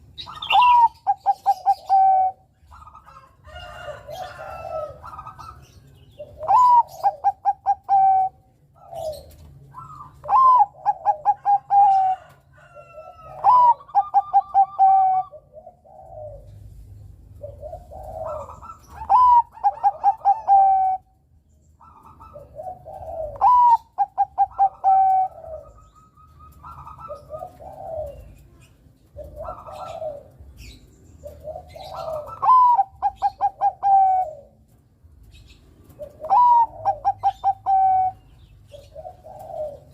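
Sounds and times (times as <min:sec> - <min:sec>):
dove cooing: 0:00.0 - 0:21.2, 0:21.8 - 0:39.9.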